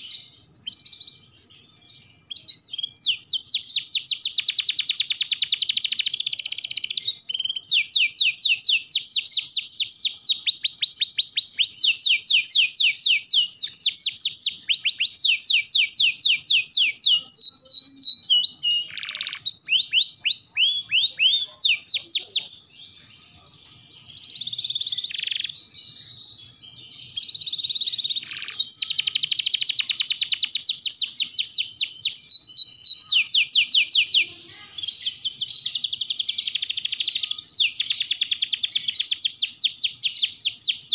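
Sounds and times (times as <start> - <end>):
canary singing rapid trills: 0.0 - 40.9.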